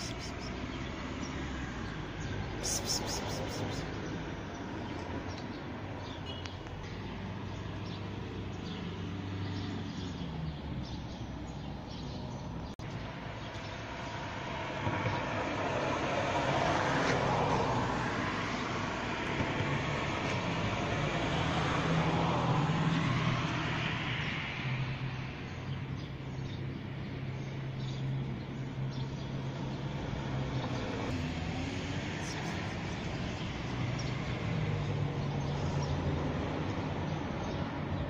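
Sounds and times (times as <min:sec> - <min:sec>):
vehicle passing: 0:00.0 - 0:06.1, 0:06.7 - 0:25.4, 0:29.4 - 0:38.0.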